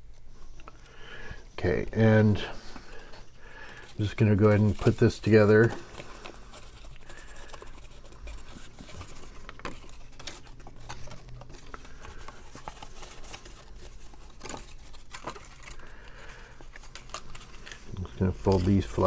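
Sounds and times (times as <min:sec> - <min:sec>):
paper taps and rustles: 0:02.7 - 0:19.0.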